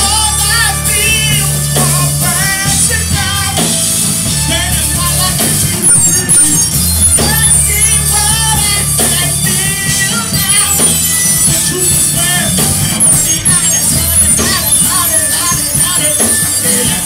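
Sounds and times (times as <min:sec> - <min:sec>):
bass notes: 0:00.0 - 0:17.0
person singing: 0:00.0 - 0:17.0.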